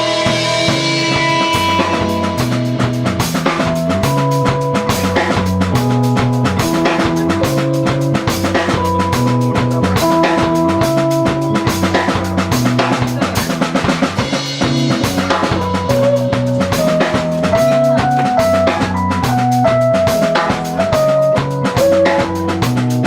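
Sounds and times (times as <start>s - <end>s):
drum kit beating: 0.0s - 23.0s
rock band playing: 0.0s - 23.0s.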